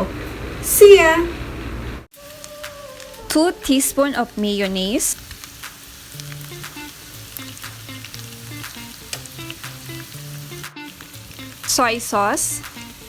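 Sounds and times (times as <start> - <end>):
food sizzling in a pan: 2.1 - 13.0.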